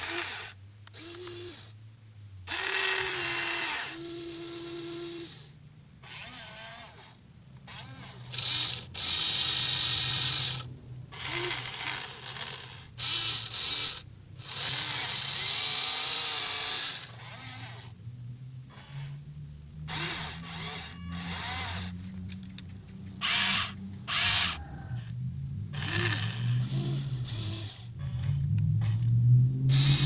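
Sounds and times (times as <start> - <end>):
electric gear motors whirring: 0.0 - 1.8, 2.5 - 18.0, 18.7 - 19.2, 19.9 - 22.2, 23.1 - 25.1, 25.7 - 30.0.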